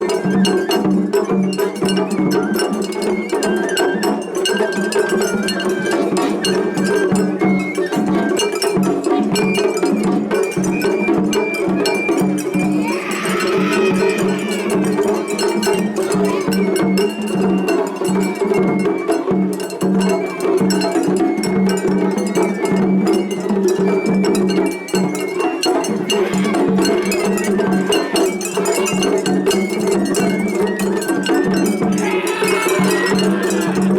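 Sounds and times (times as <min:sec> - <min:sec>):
drums: 0:00.0 - 0:33.9
high bamboo flute: 0:00.0 - 0:33.9.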